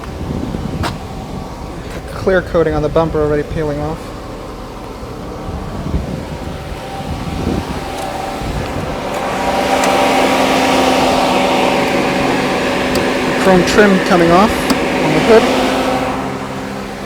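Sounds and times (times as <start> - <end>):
car engine idling: 0.0 - 17.0
low uneven rumble: 0.0 - 17.0
whirring fan: 0.0 - 17.0.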